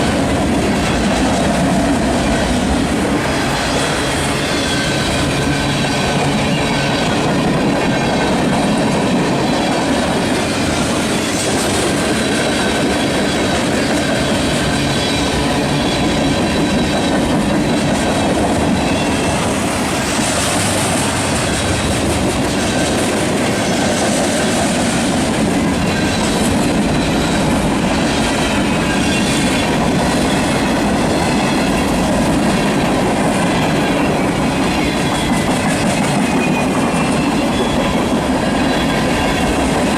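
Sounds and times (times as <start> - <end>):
clickety-clack over rail joints: 0.0 - 39.9
steel wheels rolling on rail: 0.0 - 39.9.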